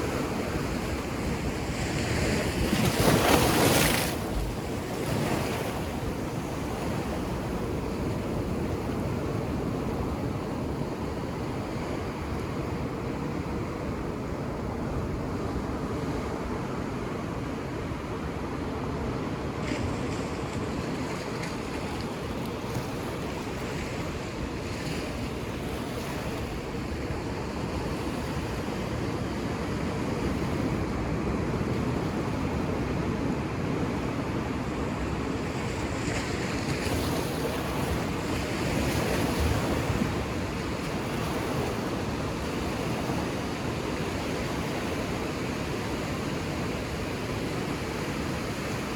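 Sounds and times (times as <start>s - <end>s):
ocean surf on beach: 0.0s - 48.9s.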